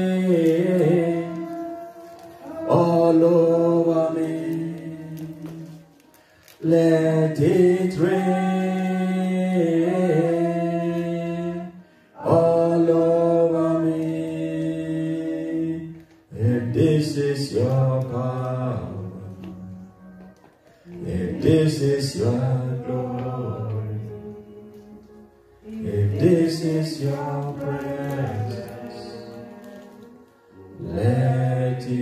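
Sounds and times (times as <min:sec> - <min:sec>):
man singing unaccompanied: 0:00.0 - 0:06.0, 0:06.6 - 0:20.0, 0:20.9 - 0:32.0.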